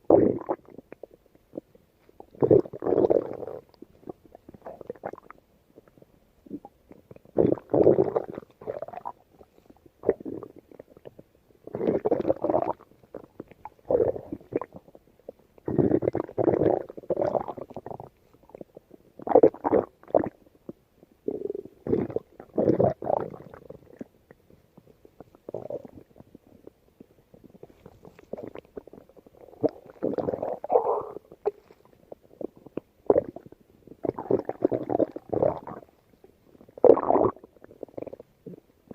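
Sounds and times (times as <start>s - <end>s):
stomach growling: 0.0s - 38.9s.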